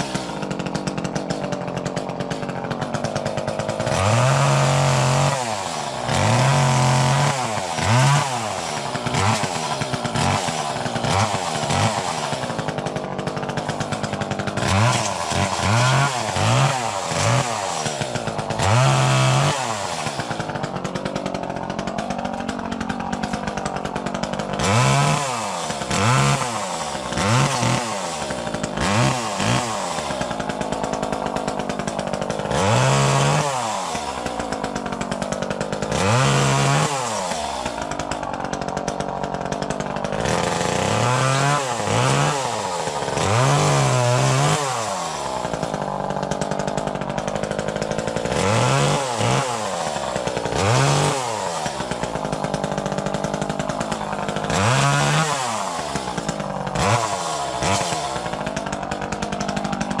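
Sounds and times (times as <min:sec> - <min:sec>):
chainsaw idling and revving: 0:00.0 - 1:00.0.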